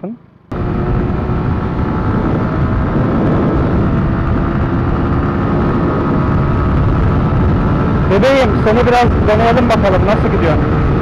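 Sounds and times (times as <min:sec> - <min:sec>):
motorcycle engine running: 0:00.5 - 0:11.0
wind rumble on microphone: 0:00.5 - 0:11.0.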